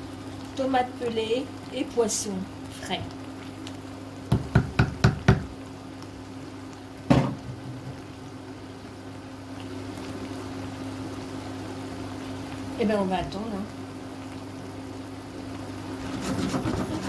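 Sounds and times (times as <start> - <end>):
sauce simmering in a pan: 0.0 - 17.0.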